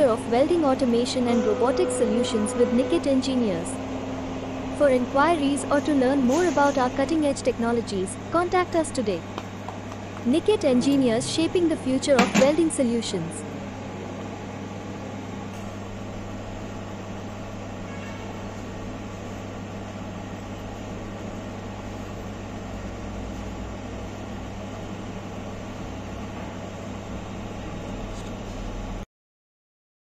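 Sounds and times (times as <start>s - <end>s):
fan-like whirr: 0.0s - 29.0s
low mains hum: 0.0s - 29.0s.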